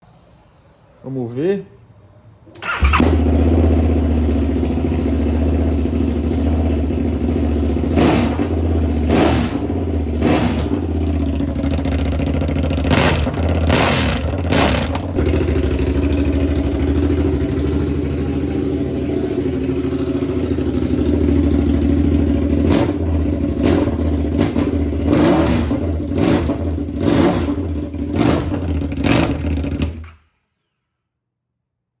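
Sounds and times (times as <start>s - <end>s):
motorcycle engine running: 2.6s - 30.2s.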